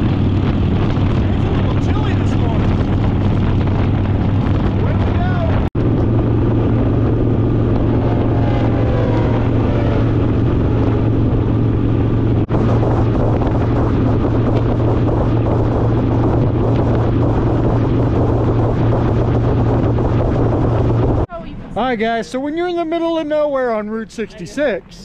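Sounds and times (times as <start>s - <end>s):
motorcycle engine cruising: 0.0s - 21.5s
wind rushing over microphone: 0.0s - 23.6s.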